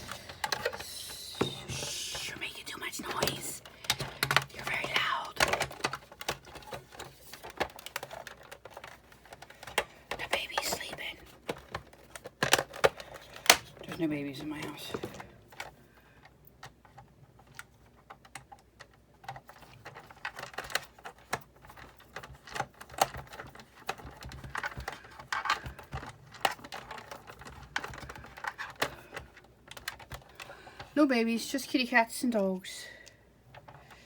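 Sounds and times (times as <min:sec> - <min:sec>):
plastic and metal parts clicking: 0:00.0 - 0:01.8, 0:03.0 - 0:14.0, 0:14.6 - 0:30.9.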